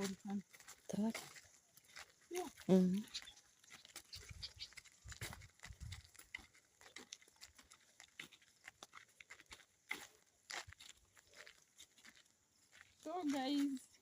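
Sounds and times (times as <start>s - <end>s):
footsteps on dry vegetation: 0.0s - 14.0s.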